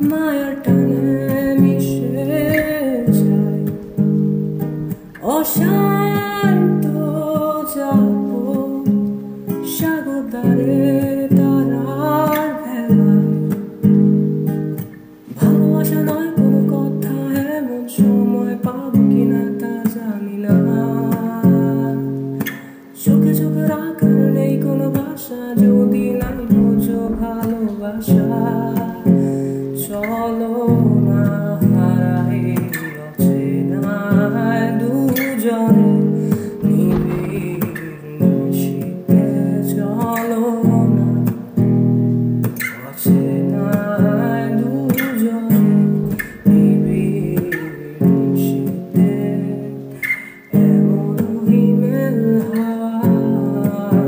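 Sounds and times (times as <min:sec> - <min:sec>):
man singing: 0:00.0 - 0:13.9, 0:15.3 - 0:41.6, 0:42.6 - 0:54.0
acoustic guitar strumming: 0:00.0 - 0:54.0.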